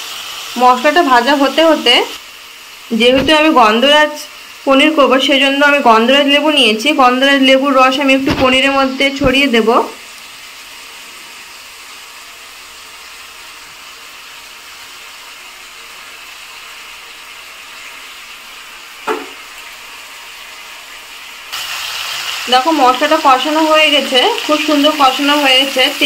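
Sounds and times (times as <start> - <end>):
paste sizzling in oil: 0.0 - 26.0.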